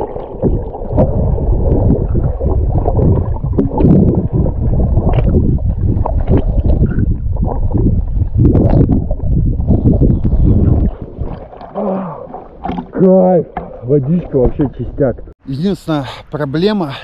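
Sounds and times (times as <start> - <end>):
muffled underwater rushing: 0.0 - 15.3.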